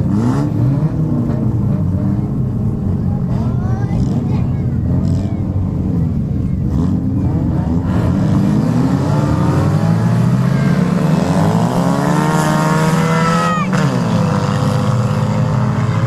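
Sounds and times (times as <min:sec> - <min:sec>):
engine revving sharply: 0:00.0 - 0:16.0
racing car engines: 0:00.0 - 0:16.0.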